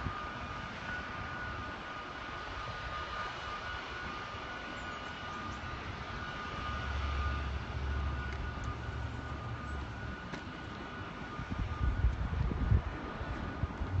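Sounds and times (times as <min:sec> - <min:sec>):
low street rumble: 0:02.1 - 0:14.0.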